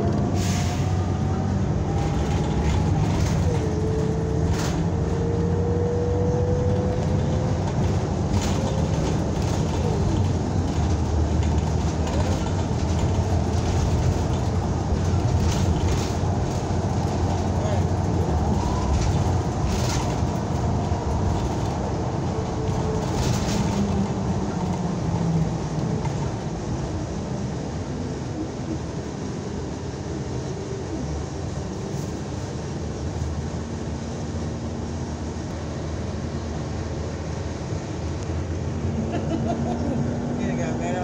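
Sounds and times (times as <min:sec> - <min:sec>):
bus engine and road noise: 0:00.0 - 0:41.0.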